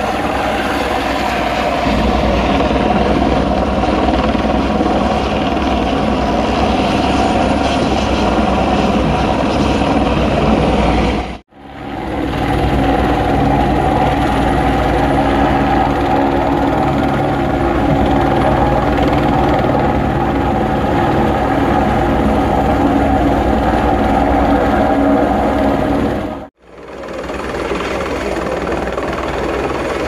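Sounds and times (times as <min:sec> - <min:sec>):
helicopter rotor chop: 0:00.0 - 0:30.0.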